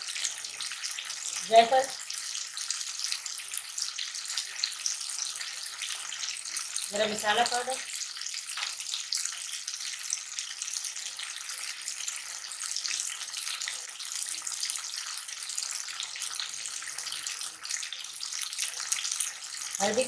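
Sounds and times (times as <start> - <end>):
gravy sizzling in oil: 0.0 - 20.0.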